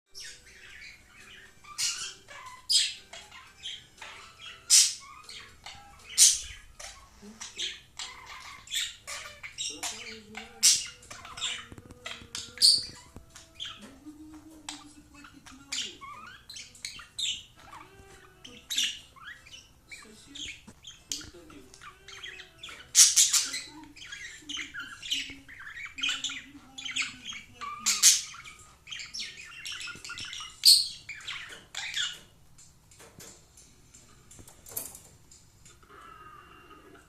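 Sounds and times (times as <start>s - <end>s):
budgerigar chirping and squawking: 0.1s - 32.4s.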